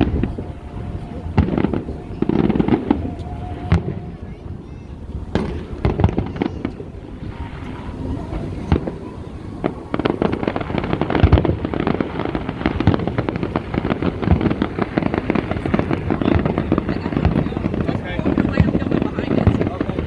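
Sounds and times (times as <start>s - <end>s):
fireworks crackling pops and bangs: 0.0s - 20.0s.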